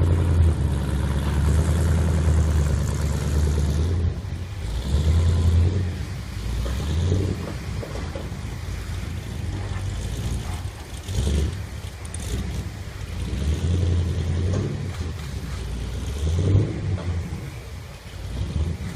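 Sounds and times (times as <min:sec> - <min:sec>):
engine rough loping idle: 0:00.0 - 0:18.9.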